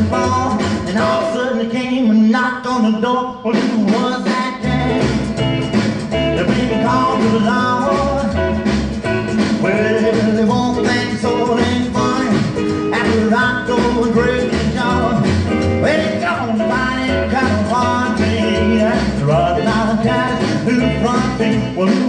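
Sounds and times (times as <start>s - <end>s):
old rock and roll record: 0.0s - 22.0s.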